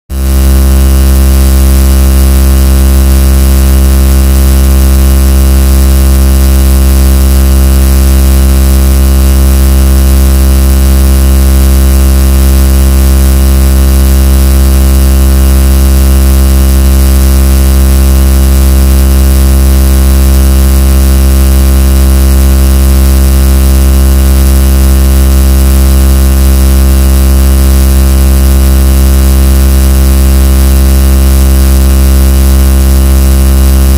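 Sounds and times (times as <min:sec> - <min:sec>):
loud distorted droning hum: 0:00.1 - 0:31.4, 0:32.0 - 0:33.9.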